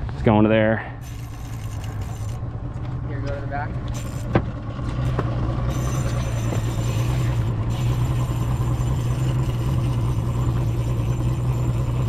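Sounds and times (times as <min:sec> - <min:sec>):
outboard motor humming: 0:00.9 - 0:12.0.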